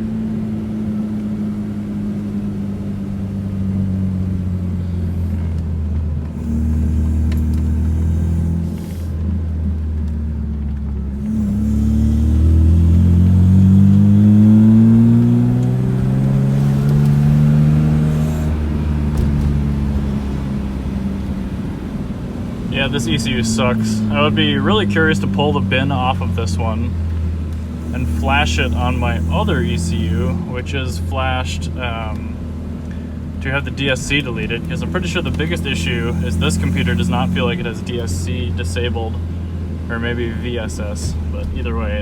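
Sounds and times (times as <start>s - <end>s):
car engine at full throttle: 0.0s - 42.0s.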